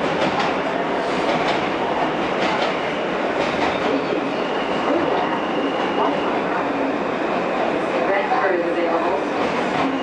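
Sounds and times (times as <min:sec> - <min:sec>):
subway wheels rumbling on rail: 0:00.0 - 0:10.0.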